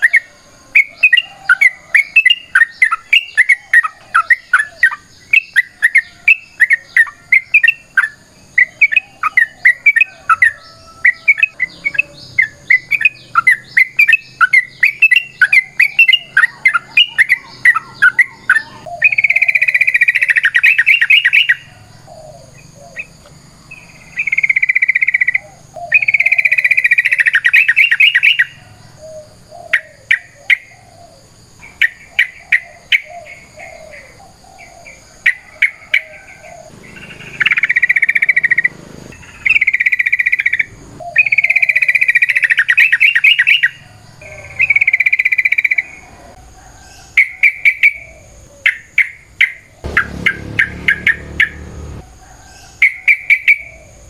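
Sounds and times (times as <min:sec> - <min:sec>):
bird chirping notes: 0:00.0 - 0:46.4, 0:47.0 - 0:53.9.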